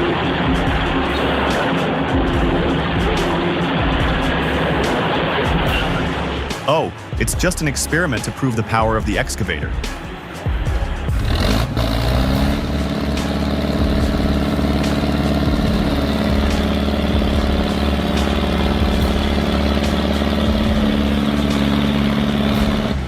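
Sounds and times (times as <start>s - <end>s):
excavator diesel engine running: 0.0s - 9.8s, 10.6s - 23.0s.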